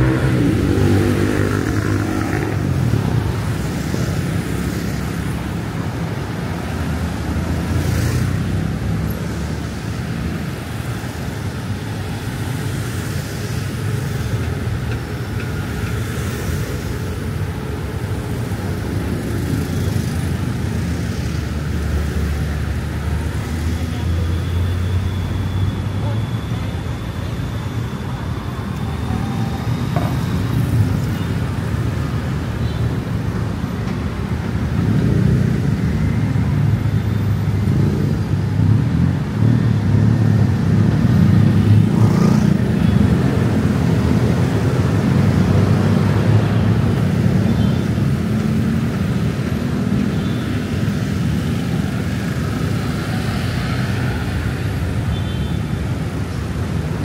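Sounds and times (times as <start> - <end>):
cars passing on road: 0.0 - 57.0.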